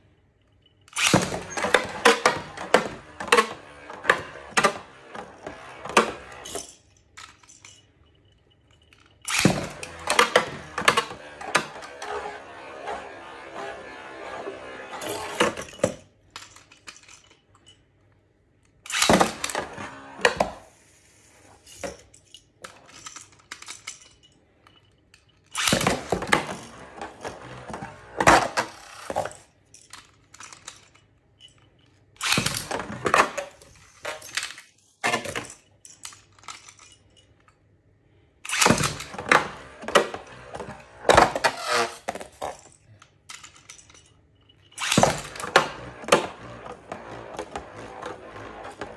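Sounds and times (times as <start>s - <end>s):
spinning tops clashing and rattling: 0.8s - 17.9s, 18.9s - 37.3s, 38.5s - 48.9s.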